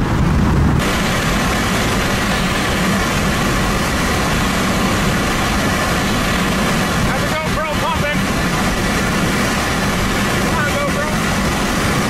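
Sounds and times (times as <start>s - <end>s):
tyre and wind noise: 0.0s - 12.0s.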